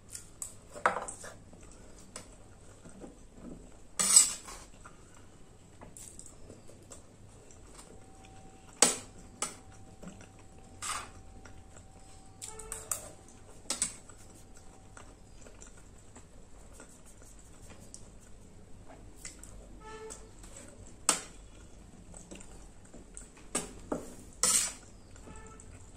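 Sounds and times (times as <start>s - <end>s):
soft chewing: 0.0s - 19.7s, 20.4s - 25.9s.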